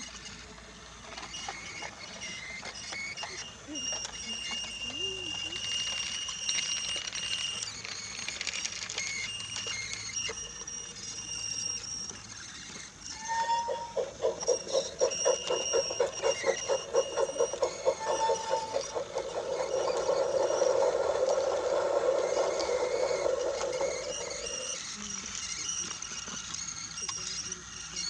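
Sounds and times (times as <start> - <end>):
toy train rolling on wooden track: 0.0 - 28.0.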